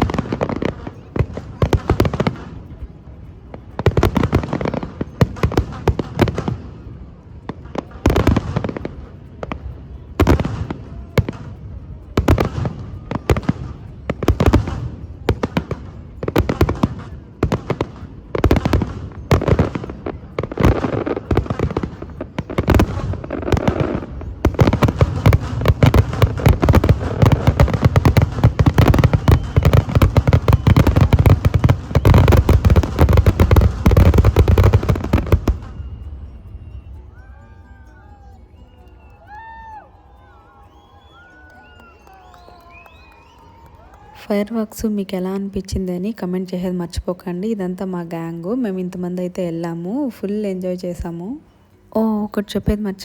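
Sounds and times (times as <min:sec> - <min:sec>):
fireworks bangs and crackle: 0:00.0 - 0:39.5, 0:42.1 - 0:46.0.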